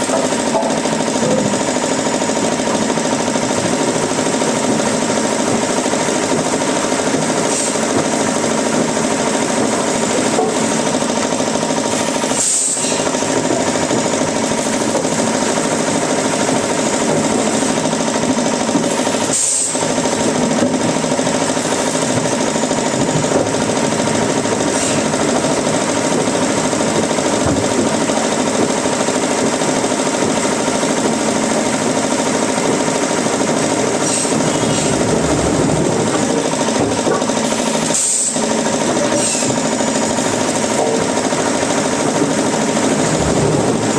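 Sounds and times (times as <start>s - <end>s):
woodworking machinery running: 0.0s - 43.9s.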